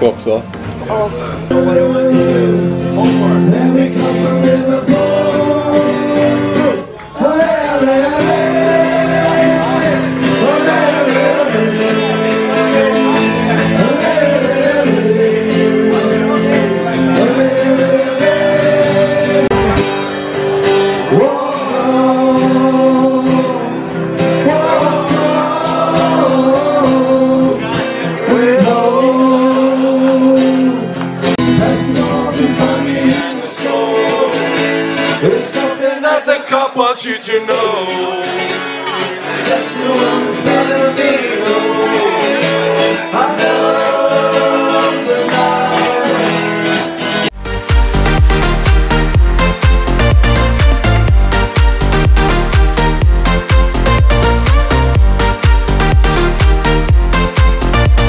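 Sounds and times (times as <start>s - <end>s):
acoustic guitars: 0.0s - 58.0s
man singing: 0.9s - 46.8s, 48.1s - 58.0s.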